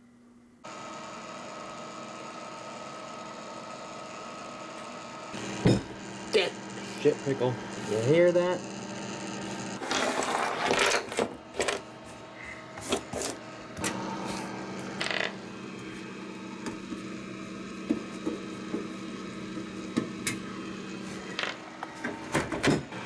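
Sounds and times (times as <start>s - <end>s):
power supply buzzing hum: 0.0s - 23.0s.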